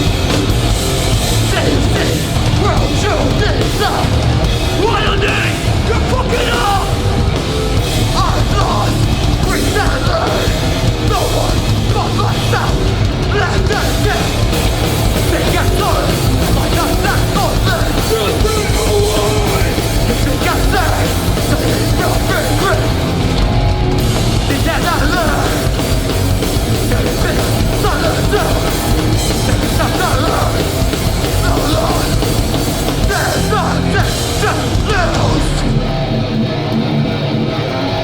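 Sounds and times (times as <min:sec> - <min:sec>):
bass guitar: 0:00.0 - 0:38.0
distorted guitars: 0:00.0 - 0:38.0
drums: 0:00.0 - 0:38.0
shouted vocals: 0:01.2 - 0:35.9.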